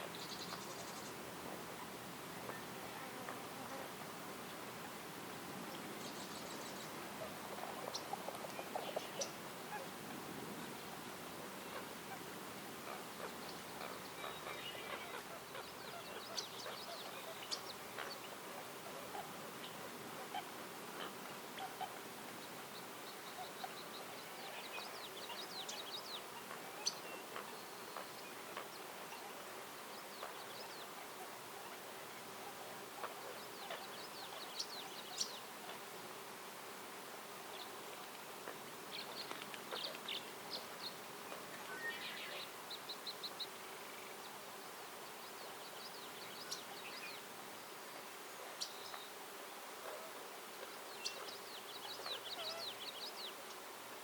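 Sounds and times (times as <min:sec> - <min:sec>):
songbirds chirping and trilling: 0:00.0 - 0:36.3, 0:37.1 - 0:54.0
faint outdoor hiss: 0:00.0 - 0:54.0.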